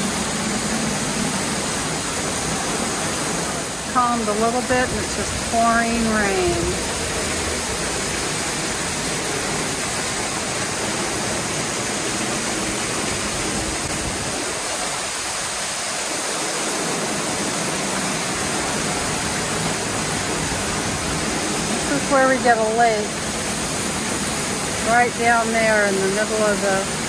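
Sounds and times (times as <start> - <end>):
heavy rain pouring: 0.0 - 27.0
water gushing and splashing: 0.0 - 27.0.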